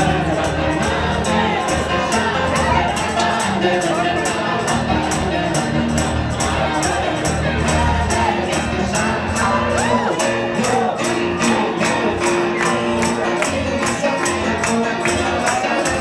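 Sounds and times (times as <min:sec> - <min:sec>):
crowd in the room: 0:00.0 - 0:16.0
fast high percussion beat: 0:00.0 - 0:16.0
live band music with singing: 0:00.0 - 0:16.0.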